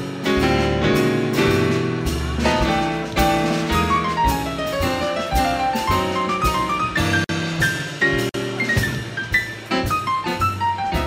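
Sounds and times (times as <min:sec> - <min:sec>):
bass and drums: 0:00.0 - 0:11.0
jazz piano: 0:00.0 - 0:11.0.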